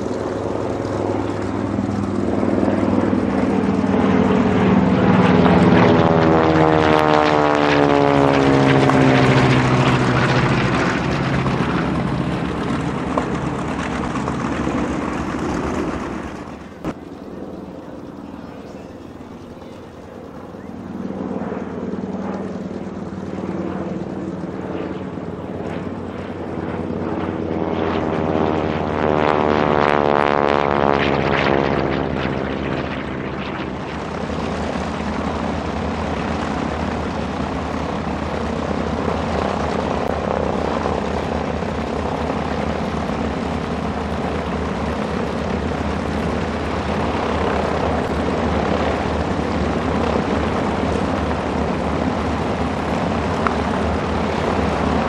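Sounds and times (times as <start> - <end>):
propeller planes flying overhead: 0.0 - 55.0
radial engine running at low power: 0.0 - 55.0.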